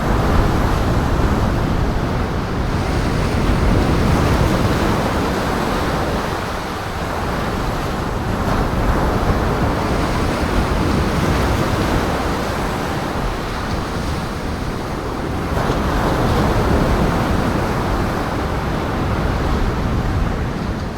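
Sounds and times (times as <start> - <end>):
waves breaking: 0.0 - 20.9
wind: 0.0 - 20.9.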